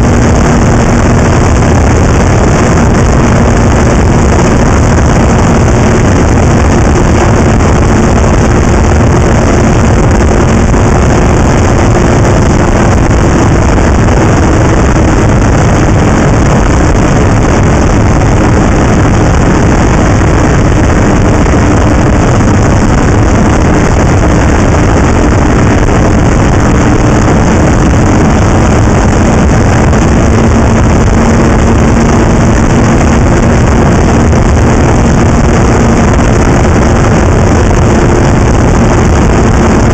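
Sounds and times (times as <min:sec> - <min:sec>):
loud even rushing noise: 0:00.0 - 0:39.9
snowmobile engine running: 0:00.0 - 0:39.9.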